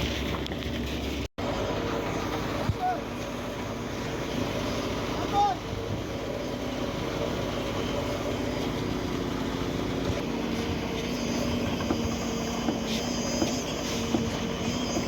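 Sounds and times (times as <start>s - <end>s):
heavy machinery engine droning: 0.0s - 15.0s.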